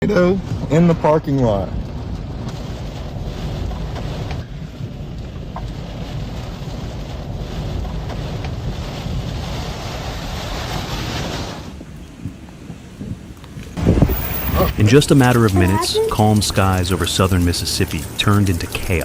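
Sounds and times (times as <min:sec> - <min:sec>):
wind buffeting microphone: 0:00.2 - 0:19.0.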